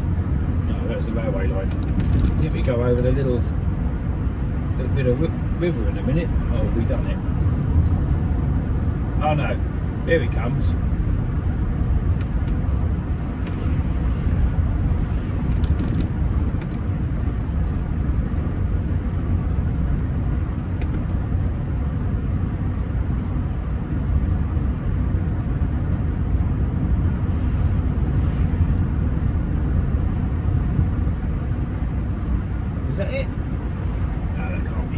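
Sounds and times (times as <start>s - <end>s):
engine and tyre rumble: 0.0s - 34.9s.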